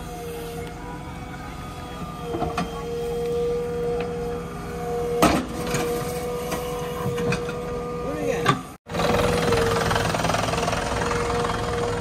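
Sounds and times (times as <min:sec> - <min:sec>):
diesel engine and hydraulics whining: 0:00.0 - 0:12.0.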